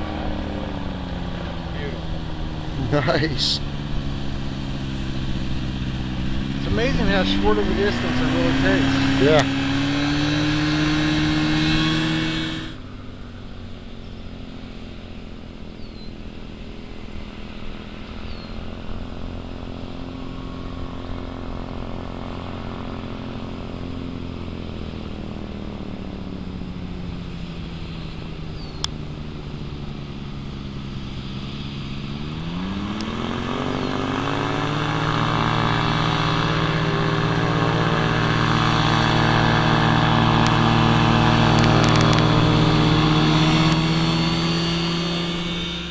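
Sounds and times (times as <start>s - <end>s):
ultralight plane engine and propeller: 0.0s - 45.9s.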